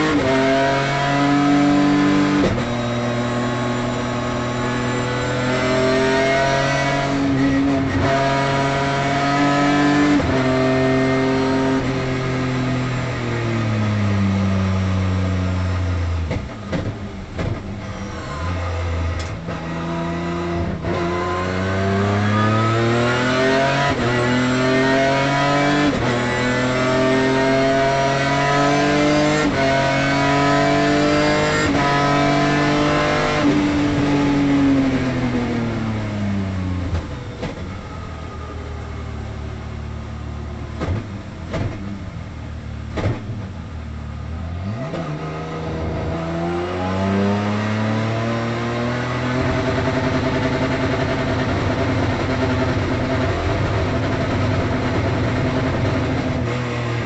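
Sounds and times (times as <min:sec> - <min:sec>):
race car engine accelerating: 0:00.0 - 0:41.8, 0:44.1 - 0:57.0.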